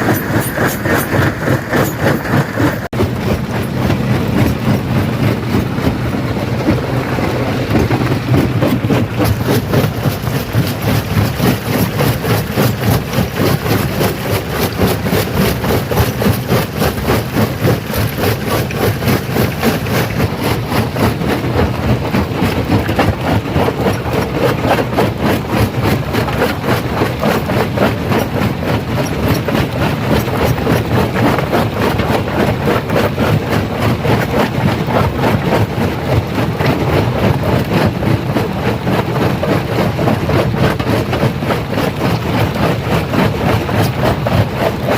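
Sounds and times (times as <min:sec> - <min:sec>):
stone crusher rumbling: 0:00.0 - 0:44.9.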